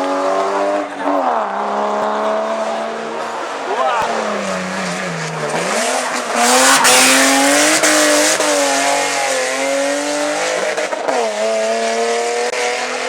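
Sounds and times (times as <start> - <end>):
loud rush of noise: 0.0 - 13.0
race car engine revving: 0.0 - 13.0.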